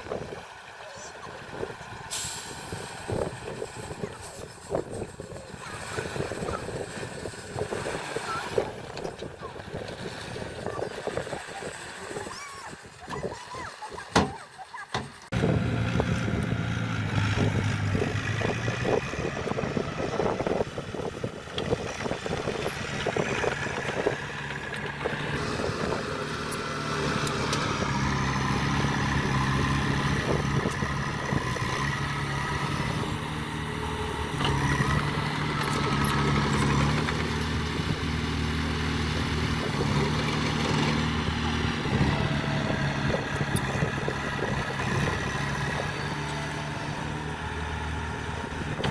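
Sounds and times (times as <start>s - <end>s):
heavy machinery diesel engines: 0.0s - 48.9s.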